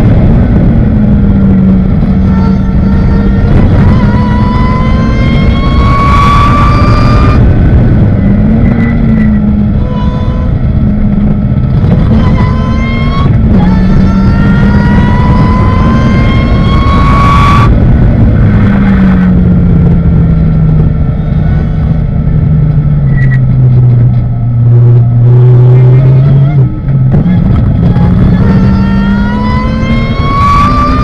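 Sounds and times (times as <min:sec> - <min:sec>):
race car engine revving: 0:00.0 - 0:31.0
wind and road noise: 0:00.0 - 0:31.0.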